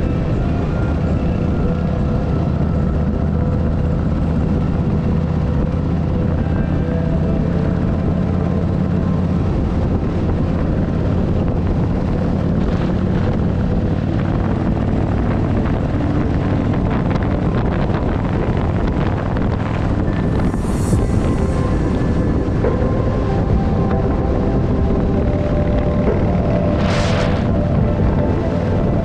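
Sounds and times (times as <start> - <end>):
motorcycle engine drone: 0.0 - 29.0
wind rushing over microphone: 0.0 - 29.0.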